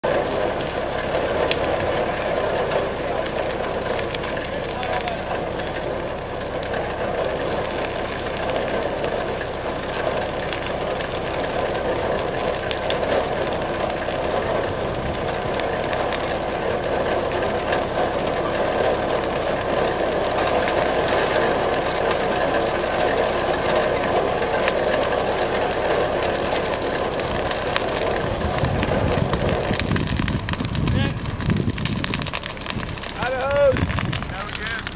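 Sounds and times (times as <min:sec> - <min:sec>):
burning brush crackles: 0:00.0 - 0:34.9
fire pump engine drone: 0:00.0 - 0:34.9
low rumble: 0:00.0 - 0:34.9.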